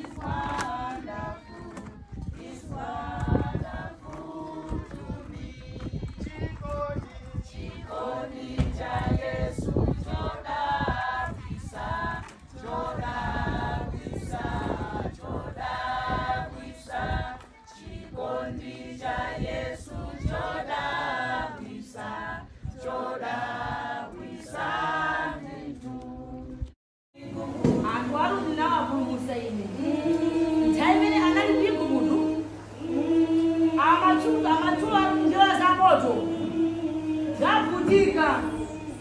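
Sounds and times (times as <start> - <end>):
congregation singing a hymn: 0.0 - 39.0.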